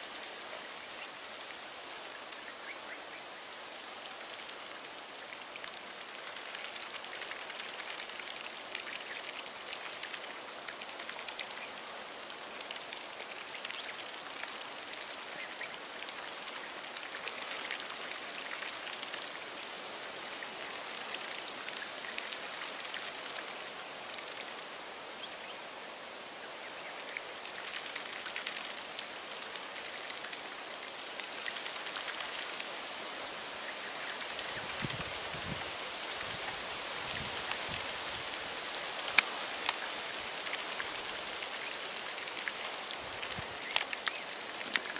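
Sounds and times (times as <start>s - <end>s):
light rain pattering: 0.0s - 44.9s.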